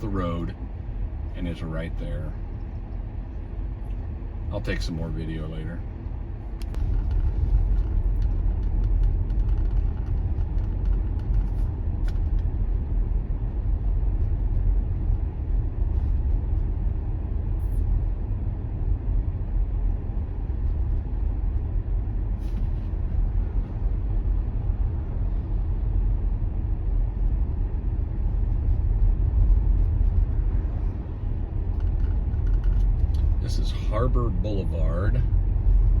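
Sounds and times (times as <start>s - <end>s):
road and tyre rumble: 0.0s - 36.0s.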